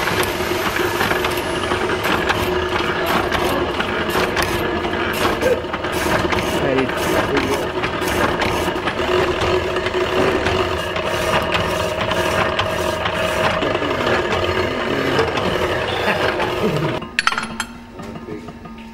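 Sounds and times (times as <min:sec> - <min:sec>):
power hacksaw clattering: 0:00.0 - 0:17.8.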